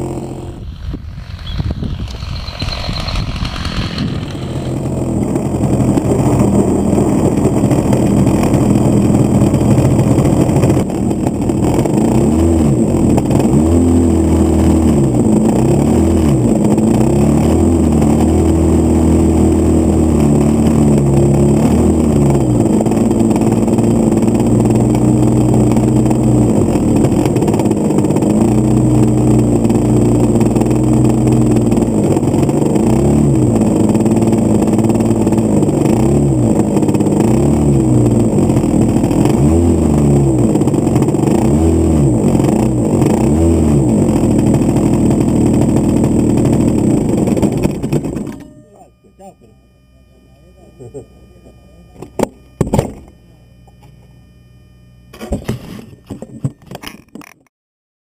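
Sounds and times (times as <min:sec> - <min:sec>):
small two-stroke engine running: 0:00.0 - 0:57.4.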